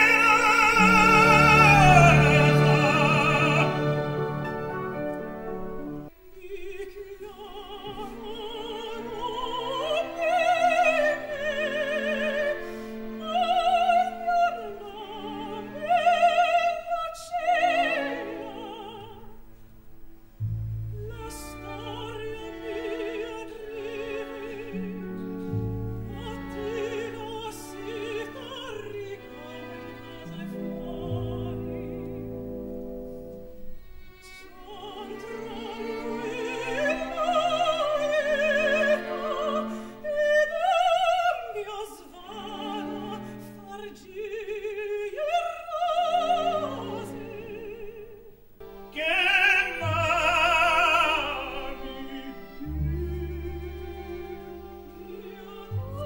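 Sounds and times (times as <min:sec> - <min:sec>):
operatic soprano singing: 0:00.0 - 0:19.6, 0:20.8 - 0:32.9, 0:34.0 - 0:56.0
quiet orchestra: 0:00.0 - 0:56.0.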